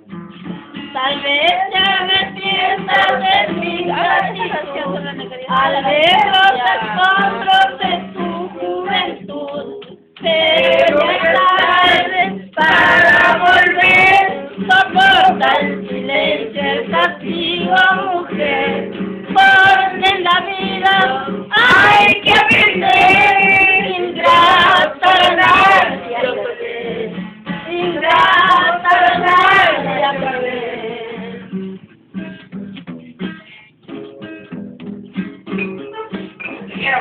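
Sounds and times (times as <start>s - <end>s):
musical backing: 0.0s - 37.0s
woman singing: 0.9s - 31.6s, 35.8s - 37.0s.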